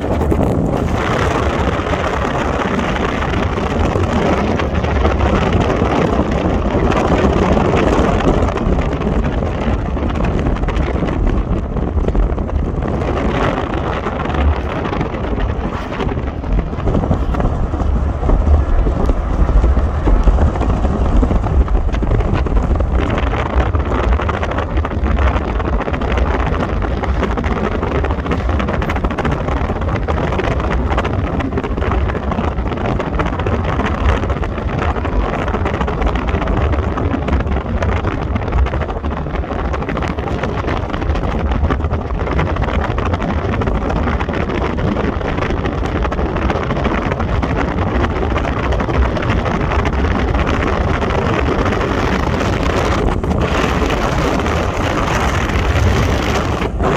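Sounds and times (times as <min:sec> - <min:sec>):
car driving rumble: 0:00.0 - 0:56.9
wind buffeting microphone: 0:00.0 - 0:56.9.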